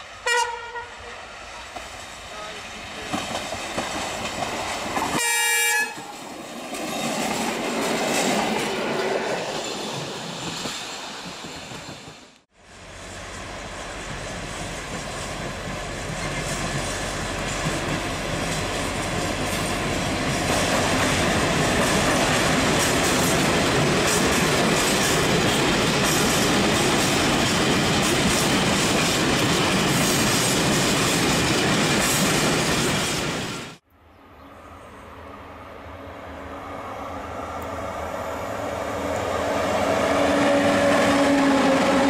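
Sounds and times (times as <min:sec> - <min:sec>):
diesel locomotive passing: 0:00.0 - 0:42.0.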